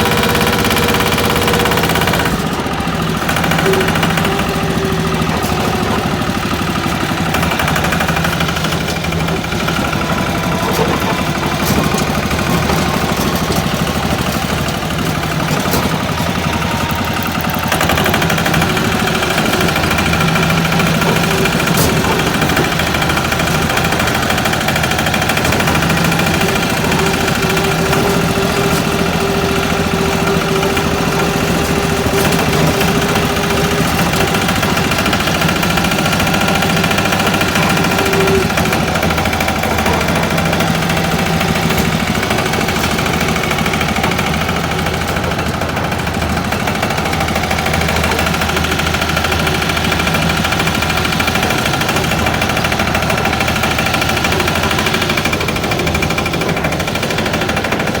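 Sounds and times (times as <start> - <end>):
diesel engine knocking: 0.0 - 58.0.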